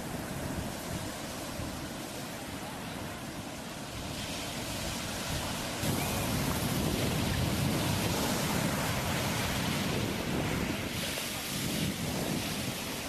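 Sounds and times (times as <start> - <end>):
ocean surf washing in: 0.0 - 13.0.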